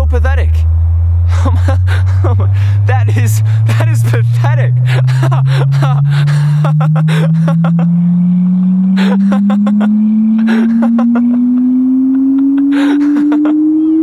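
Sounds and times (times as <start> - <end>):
drone tone rising in pitch: 0.6 - 14.0.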